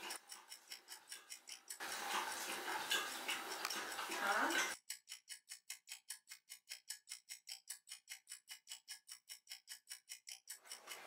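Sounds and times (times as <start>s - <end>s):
fast clock-like ticking: 0.0s - 11.0s.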